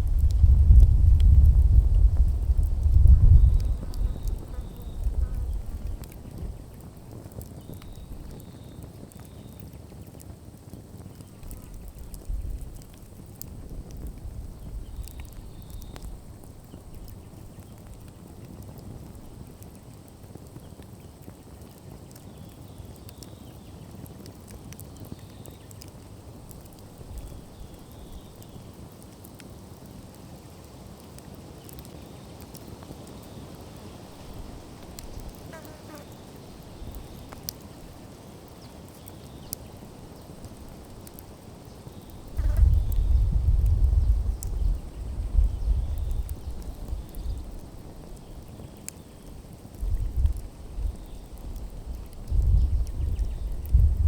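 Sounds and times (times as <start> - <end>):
burning wood crackling: 0.0 - 54.0
fire low rumble: 0.0 - 54.0.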